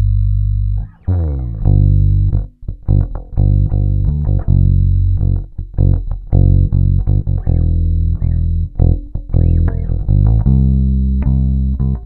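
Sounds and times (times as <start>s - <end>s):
electric bass riff: 0.0s - 12.0s.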